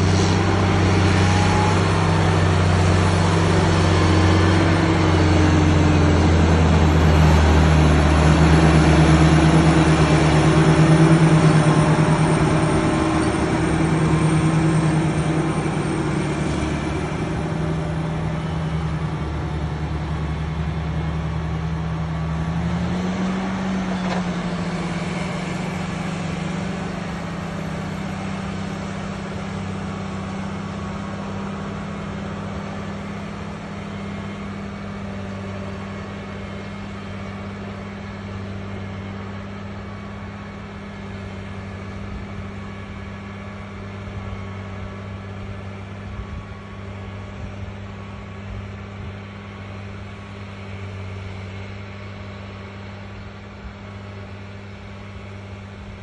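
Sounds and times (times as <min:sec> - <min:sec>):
tractor diesel engines droning: 0:00.0 - 0:56.0.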